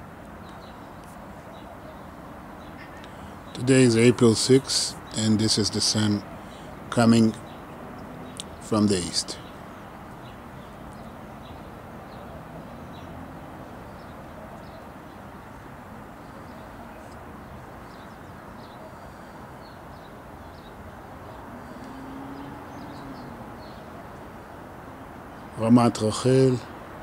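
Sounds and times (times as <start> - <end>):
distant city traffic hum: 0.0 - 27.0
small birds chirping: 0.0 - 27.0.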